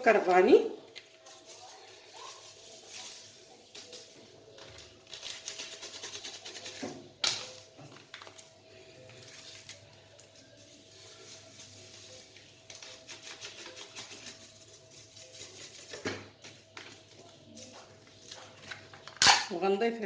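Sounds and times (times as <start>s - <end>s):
food packets rustling and crinkling: 0.0s - 19.3s.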